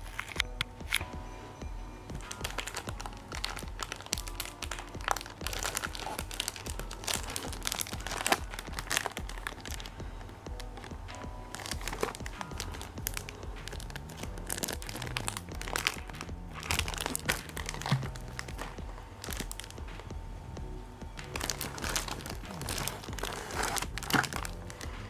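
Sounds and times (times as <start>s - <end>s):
plastic packaging crinkling: 0.0s - 1.0s, 2.2s - 10.0s, 10.6s - 19.8s, 21.2s - 25.0s
background music: 0.0s - 25.0s.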